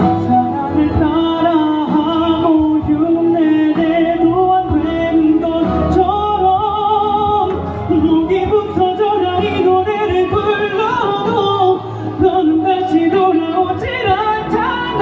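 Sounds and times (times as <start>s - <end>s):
backing music: 0.0s - 15.0s
man singing: 0.0s - 15.0s.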